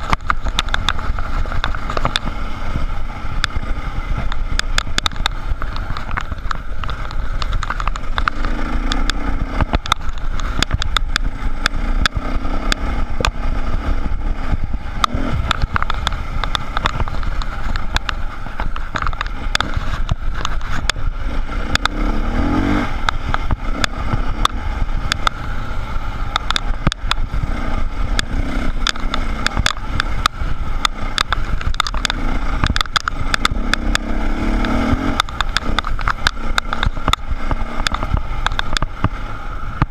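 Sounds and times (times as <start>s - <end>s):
stones clicking and knocking: 0.0s - 14.1s, 14.9s - 39.9s
dirt bike engine revving: 0.0s - 39.9s.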